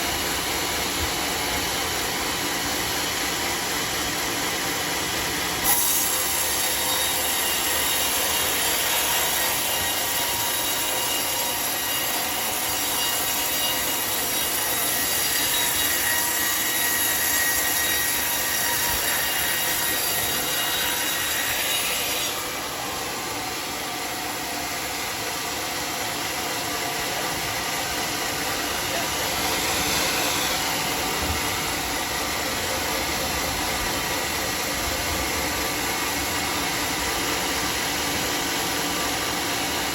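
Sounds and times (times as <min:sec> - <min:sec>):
circular saw cutting log: 0:00.0 - 0:39.9.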